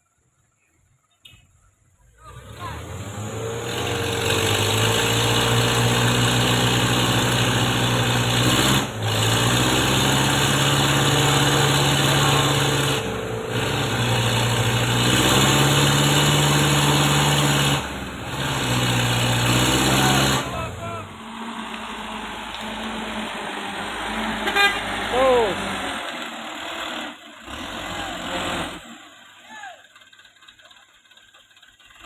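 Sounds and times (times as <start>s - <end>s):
diesel engines labouring: 0.1s - 32.0s.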